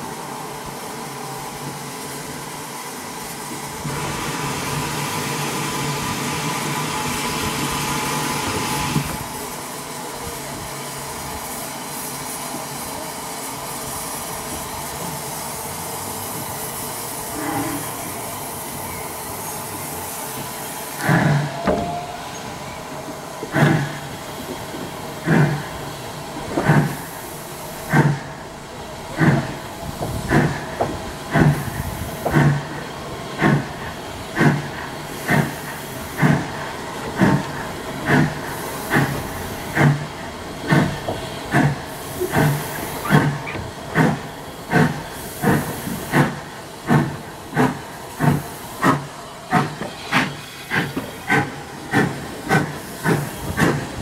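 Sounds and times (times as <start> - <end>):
steady steam hiss: 0.0 - 54.0
steam locomotive chuffing: 0.0 - 54.0.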